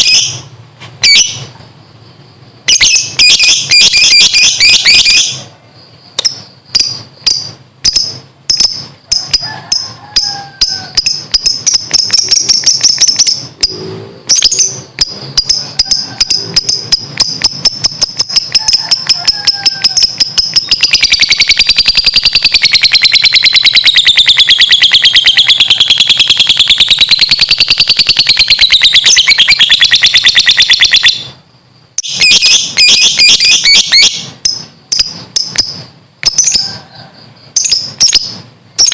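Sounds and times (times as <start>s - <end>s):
lovebird shrill chattering trill: 0.0s - 1.5s, 2.7s - 5.5s, 6.2s - 31.4s, 32.0s - 36.8s, 37.5s - 38.9s.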